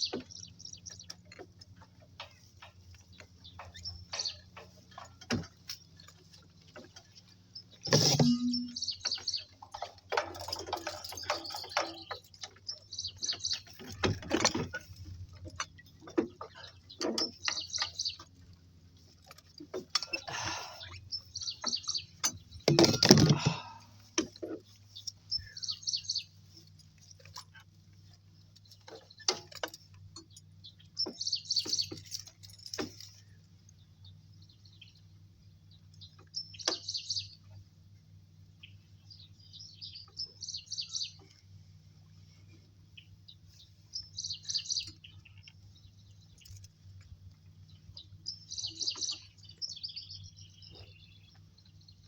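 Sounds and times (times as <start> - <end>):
songbird chirping: 0.0 - 52.0.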